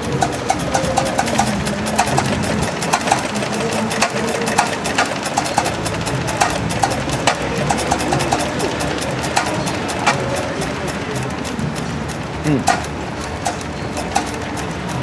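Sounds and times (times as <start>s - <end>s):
stationary engine clattering: 0.0s - 15.0s.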